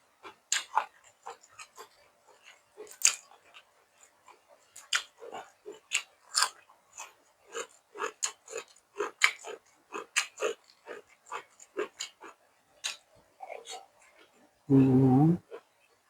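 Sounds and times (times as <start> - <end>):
person chewing food: 0.5 - 14.3.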